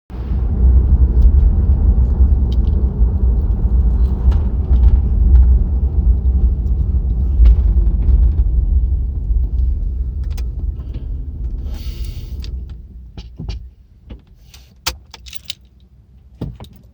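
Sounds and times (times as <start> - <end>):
car engine low rumble: 0.1 - 16.9.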